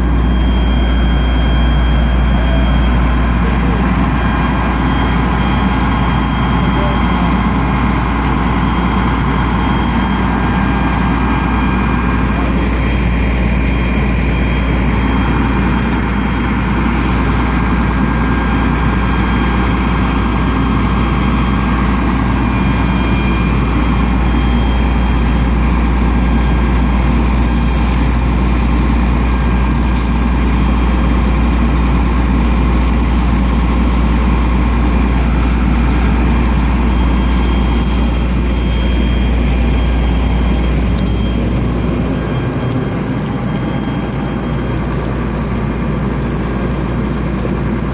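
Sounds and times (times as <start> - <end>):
engine running loudly: 0.0 - 45.1.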